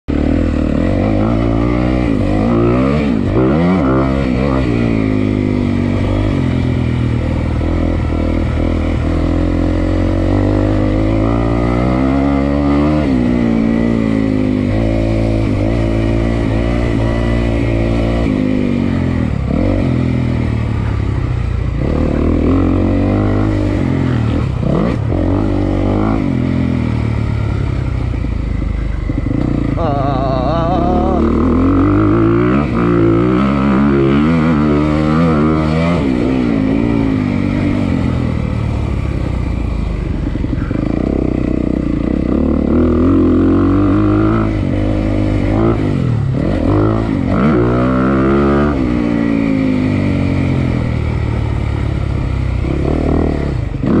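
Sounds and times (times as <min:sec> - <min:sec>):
dirt bike engine revving: 0:00.1 - 0:54.0.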